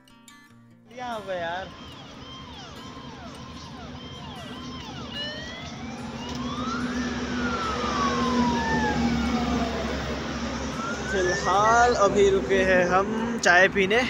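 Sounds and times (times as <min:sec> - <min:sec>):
siren wailing: 0:00.9 - 0:13.8
road traffic noise: 0:00.9 - 0:14.0.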